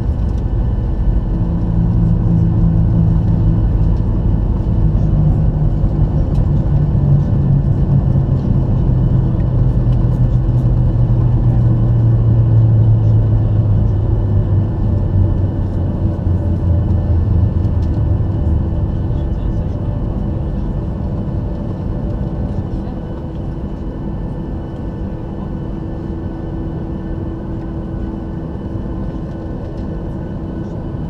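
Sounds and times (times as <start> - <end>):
jet engine cabin rumble: 0.0 - 31.0
low hum sinking in pitch: 0.0 - 31.0.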